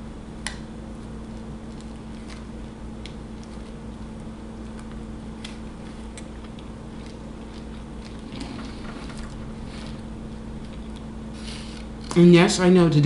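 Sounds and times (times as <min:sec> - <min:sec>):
steady low hum: 0:00.0 - 0:13.0
person chewing sandwich: 0:00.9 - 0:12.1.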